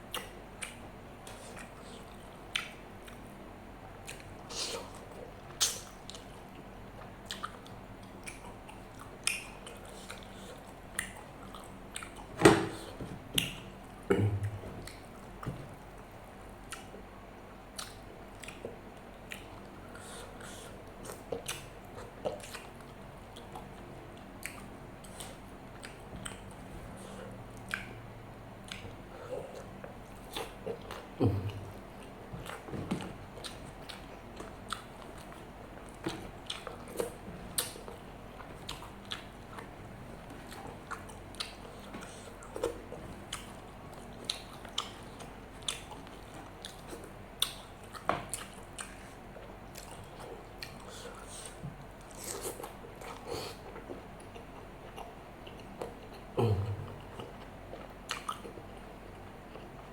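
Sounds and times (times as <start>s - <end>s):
wet chewing and lip smacks: 0.1s - 3.3s, 4.0s - 12.3s, 16.6s - 17.1s, 17.7s - 28.0s, 28.6s - 32.7s, 33.4s - 59.9s.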